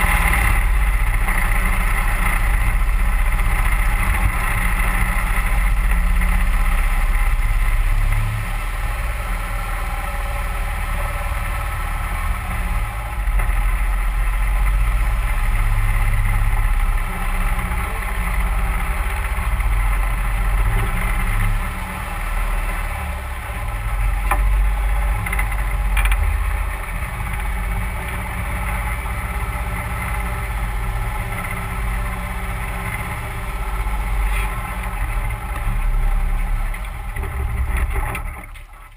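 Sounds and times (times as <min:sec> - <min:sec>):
boat mud motor running: 0:00.0 - 0:38.9.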